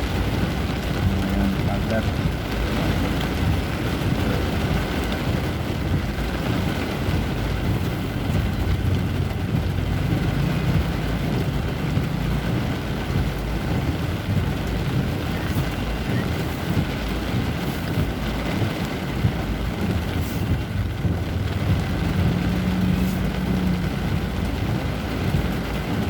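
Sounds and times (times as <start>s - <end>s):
traffic rumble in heavy rain: 0.0s - 26.0s.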